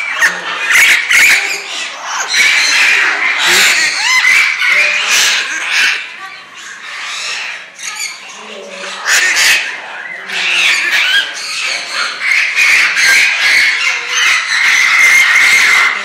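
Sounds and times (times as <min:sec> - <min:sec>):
chorus of birds calling: 0:00.0 - 0:16.0.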